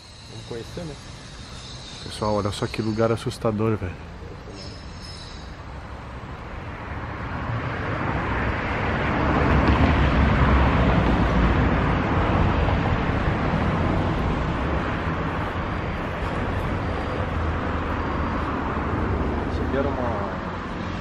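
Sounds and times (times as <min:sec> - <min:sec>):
road vehicle passing: 0:00.0 - 0:21.0.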